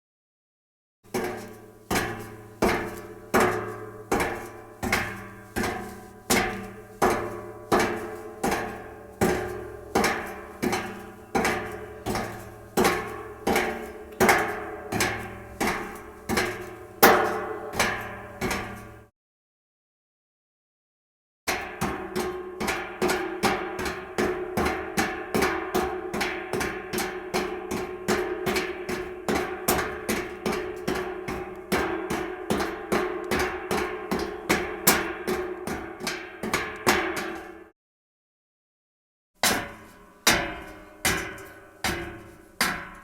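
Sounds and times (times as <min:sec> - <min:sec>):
footsteps on metal staircase: 0:01.1 - 0:19.1, 0:23.1 - 0:37.7, 0:39.4 - 0:43.0.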